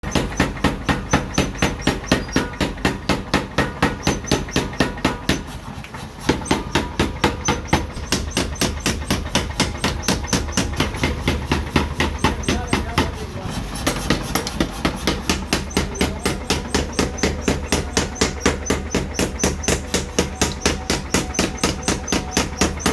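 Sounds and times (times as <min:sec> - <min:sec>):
power hammer striking: 0:00.0 - 0:22.9.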